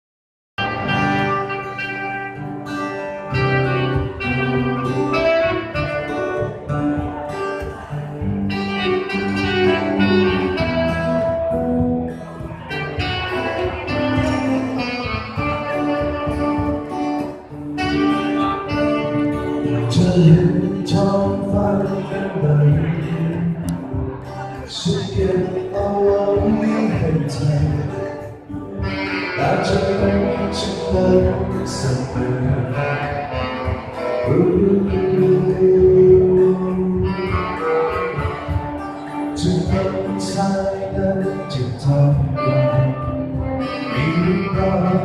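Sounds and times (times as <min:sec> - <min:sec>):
band playing guitar-led music: 0:00.6 - 0:45.0.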